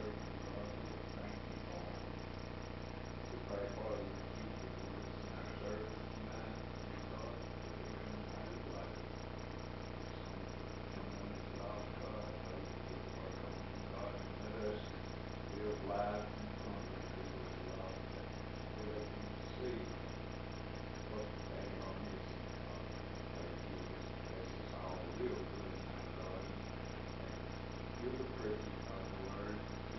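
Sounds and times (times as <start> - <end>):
low hum and hiss: 0.0 - 29.9.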